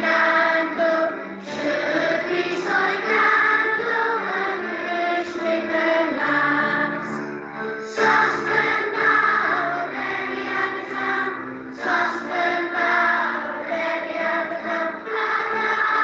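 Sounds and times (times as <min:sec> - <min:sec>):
several voices singing folk song: 0:00.0 - 0:07.2, 0:07.9 - 0:16.0.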